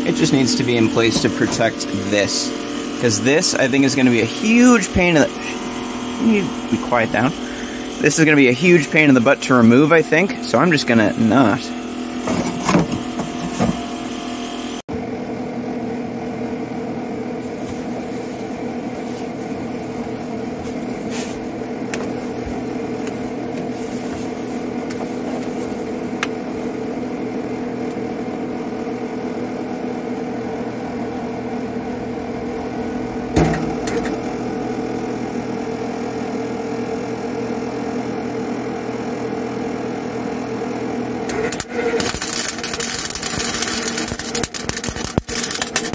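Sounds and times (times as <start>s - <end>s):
steady machine hum: 0.0s - 45.9s.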